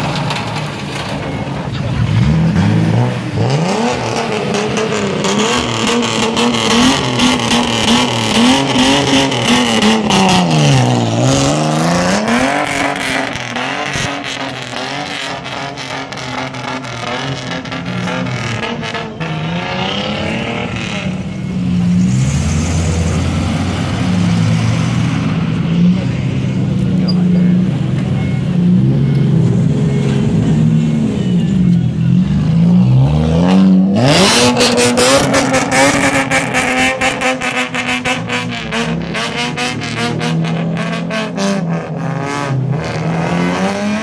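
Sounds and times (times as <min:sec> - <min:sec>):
deeper steady engine: 0:00.0 - 0:44.0
modified car engines revving: 0:00.0 - 0:44.0.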